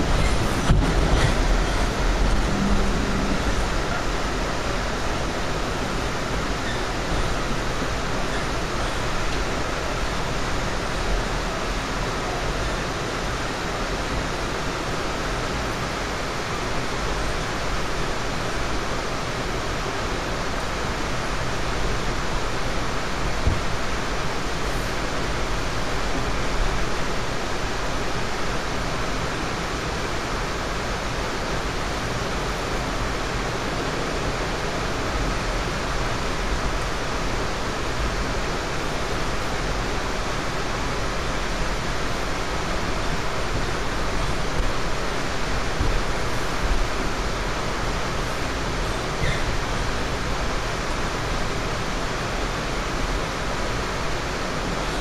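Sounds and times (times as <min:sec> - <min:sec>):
train car rushing noise: 0:00.0 - 0:55.0
wheels rumbling on track: 0:00.0 - 0:55.0.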